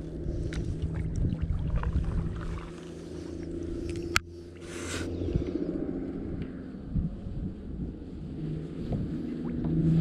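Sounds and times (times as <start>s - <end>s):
steady low hum and rumble: 0.0s - 10.0s.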